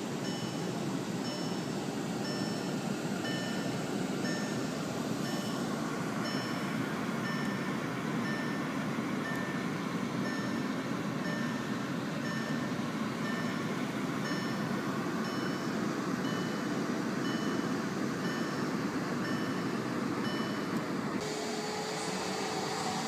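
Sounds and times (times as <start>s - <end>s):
car engine idling: 0.0s - 23.0s
thin steady hum: 0.0s - 23.0s
dashboard warning chime beeping: 0.2s - 20.8s.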